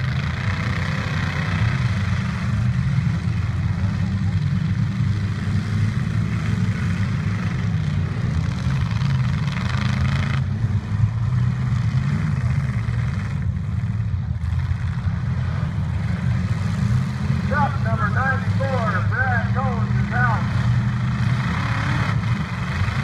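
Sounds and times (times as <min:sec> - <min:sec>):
truck engines droning: 0:00.0 - 0:23.0.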